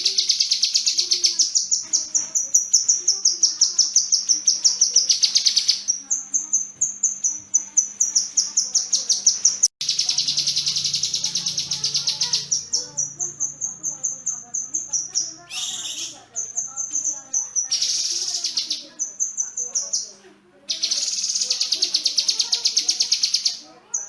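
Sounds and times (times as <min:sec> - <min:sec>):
bird singing rapid high notes: 0:00.0 - 0:24.0.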